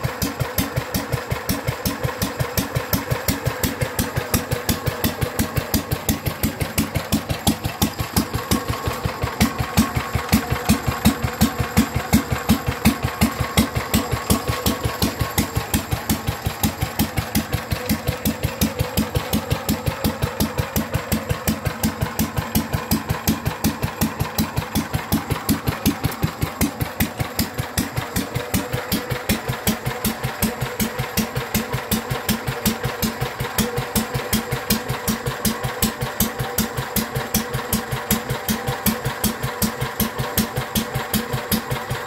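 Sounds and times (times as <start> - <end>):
stationary engine running: 0.0 - 42.0.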